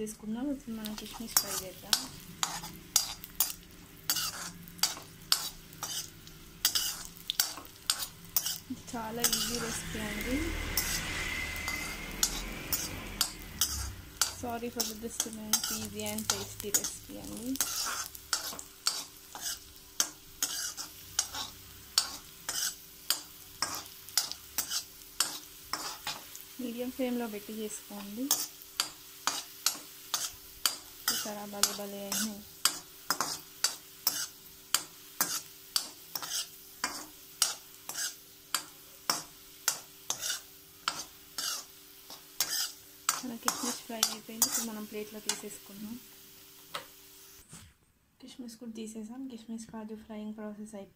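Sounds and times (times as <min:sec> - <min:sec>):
raisins sizzling: 0:00.0 - 0:47.6
steel spoon scraping a pan: 0:00.9 - 0:45.7.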